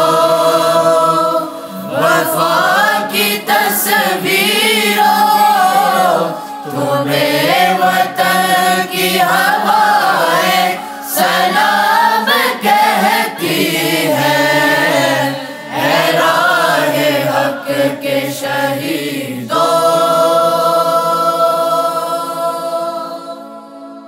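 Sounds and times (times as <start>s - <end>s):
man and boys singing in choir: 0.0s - 24.0s.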